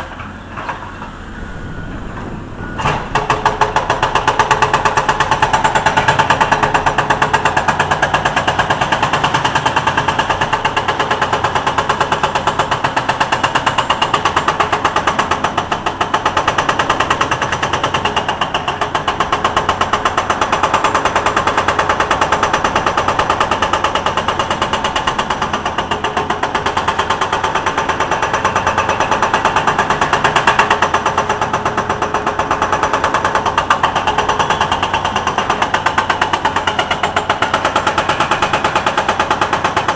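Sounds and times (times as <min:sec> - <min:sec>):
hydraulic breaker hammer pounding: 0:00.0 - 0:39.9.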